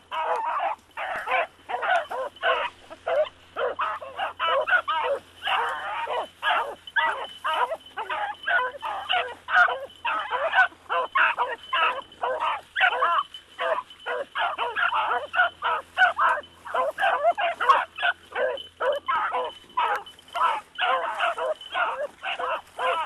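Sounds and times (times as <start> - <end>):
dogs and pups barking: 0.0 - 23.0.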